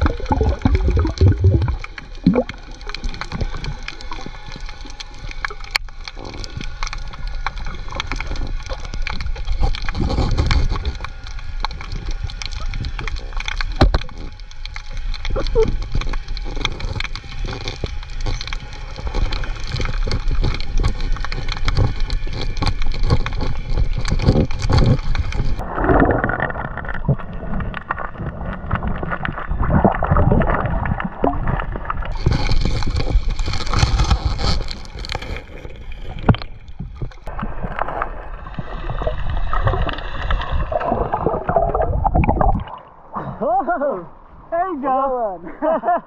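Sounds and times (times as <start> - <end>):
water sloshing and gurgling: 0.0 - 44.5.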